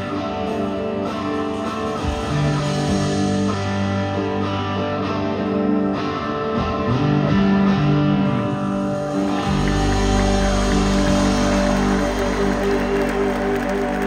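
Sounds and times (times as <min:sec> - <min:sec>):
crowd noise: 0:00.0 - 0:14.0
live rock band playing: 0:00.0 - 0:14.0.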